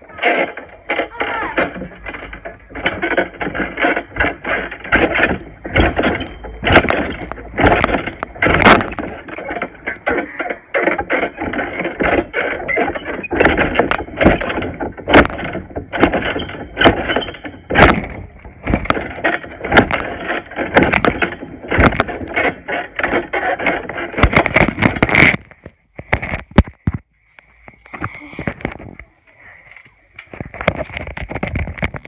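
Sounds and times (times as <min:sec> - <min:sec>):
sharp clicks and knocks: 0:00.1 - 0:29.1, 0:29.7 - 0:32.0.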